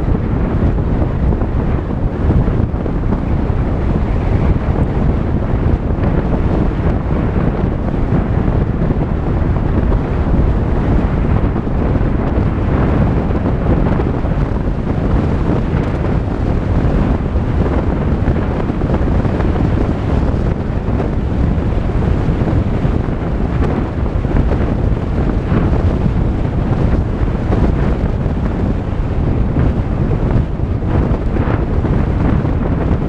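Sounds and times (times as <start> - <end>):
car driving on dirt road: 0.0 - 33.0.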